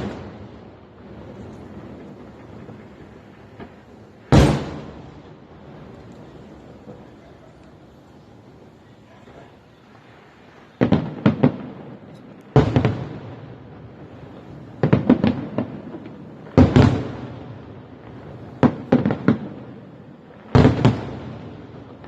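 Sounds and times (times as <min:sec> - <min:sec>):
fireworks bangs with rumbling echo: 0:00.0 - 0:22.0.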